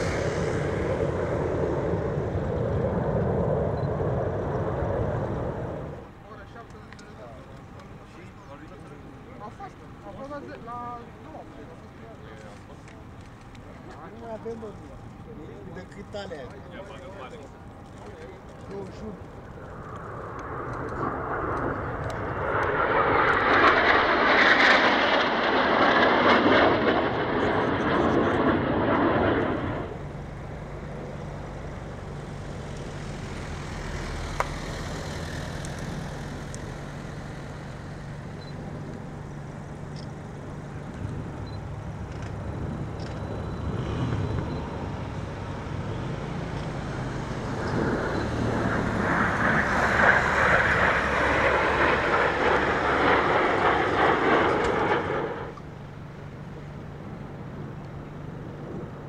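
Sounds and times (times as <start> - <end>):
jet engines rushing overhead: 0.0 - 59.0
steady low hum: 0.0 - 59.0.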